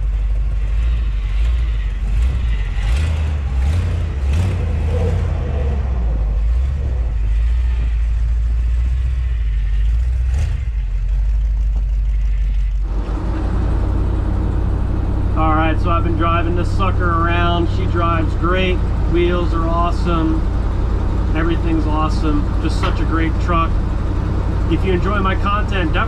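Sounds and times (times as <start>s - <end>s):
pickup engine and road rumble: 0.0s - 26.0s.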